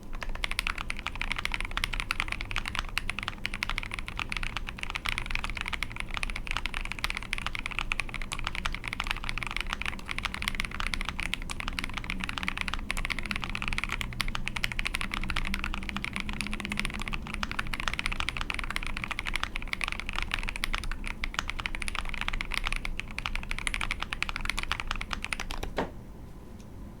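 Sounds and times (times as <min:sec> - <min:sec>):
fast typing on mechanical keyboard: 0:00.0 - 0:25.8.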